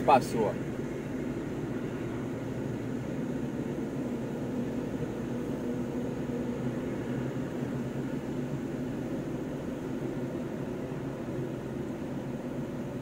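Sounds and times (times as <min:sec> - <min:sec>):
engine and tyre drone in cabin: 0:00.0 - 0:13.0
faint steady hum: 0:00.0 - 0:13.0.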